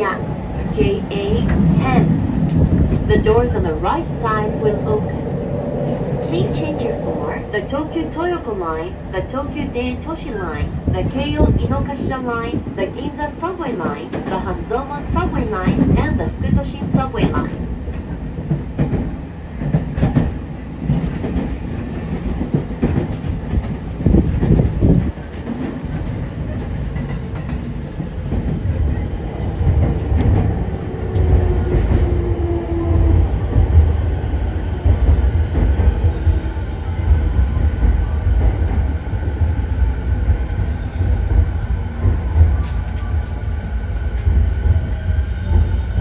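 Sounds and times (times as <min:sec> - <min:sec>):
rail joint clicks: 0:00.0 - 0:46.0
wheels rumbling on rail: 0:00.0 - 0:46.0.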